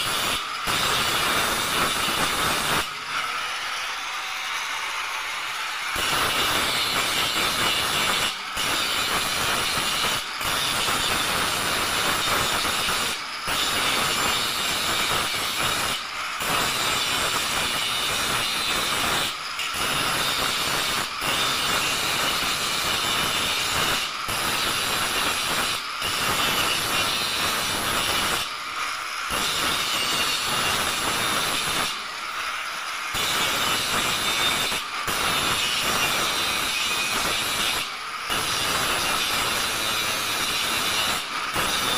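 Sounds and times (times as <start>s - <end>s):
angle grinder grinding steel: 0.0s - 41.9s.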